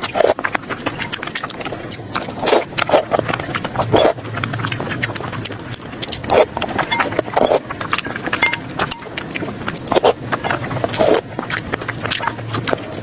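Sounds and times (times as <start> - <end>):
chewing and mouth smacks: 0.0 - 13.0.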